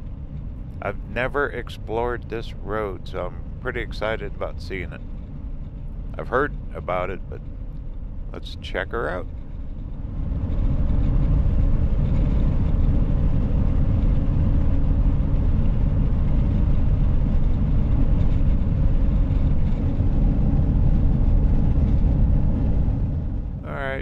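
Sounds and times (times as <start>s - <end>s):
road and wind hiss: 0.0s - 24.0s
vehicle engine and tyre rumble: 0.0s - 24.0s.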